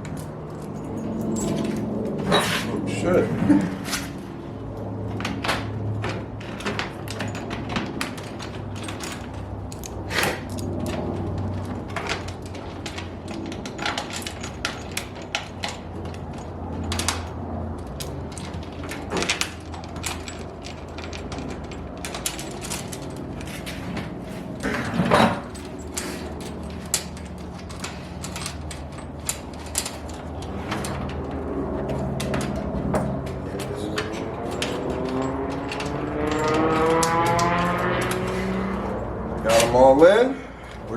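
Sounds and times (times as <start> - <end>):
loud clatter: 5.1 - 39.8
rivets clicking and snapping: 5.1 - 39.9.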